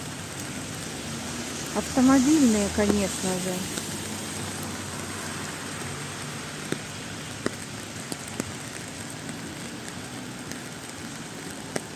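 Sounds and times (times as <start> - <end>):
raindrops ticking: 0.0 - 11.9
steady rain falling: 0.0 - 11.9.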